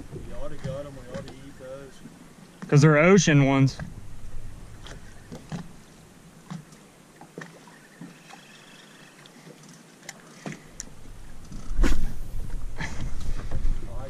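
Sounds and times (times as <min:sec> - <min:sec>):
water lapping against hull: 0:00.0 - 0:14.0.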